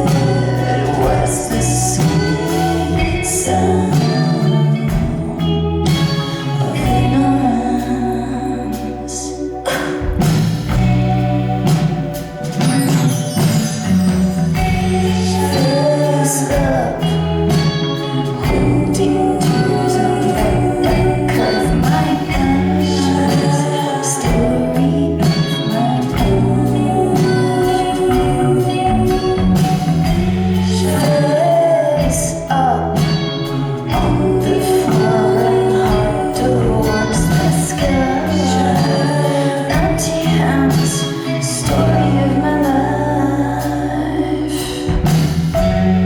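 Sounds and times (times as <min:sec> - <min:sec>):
person singing: 0:00.0 - 0:10.5, 0:11.6 - 0:46.0
live band playing: 0:00.0 - 0:46.0.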